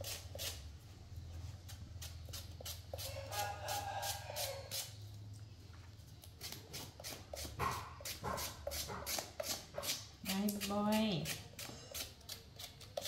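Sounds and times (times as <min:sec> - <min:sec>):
peeler scraping a vegetable: 0:00.0 - 0:00.7, 0:01.6 - 0:05.2, 0:06.2 - 0:13.0.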